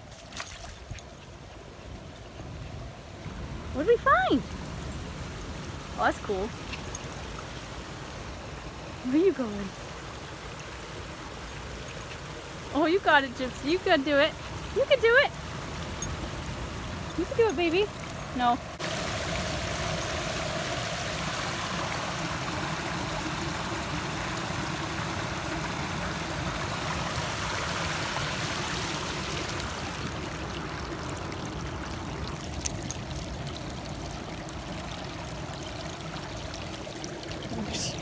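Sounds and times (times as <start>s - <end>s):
creek splashing down rocky cascade: 0.0s - 38.0s.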